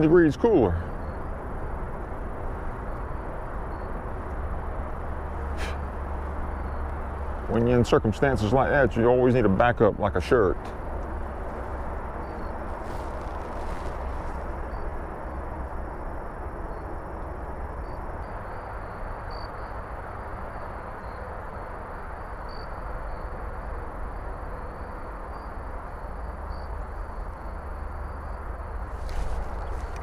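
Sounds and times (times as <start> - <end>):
faint high whine: 0.0 - 30.0
low outdoor rumble: 0.0 - 30.0.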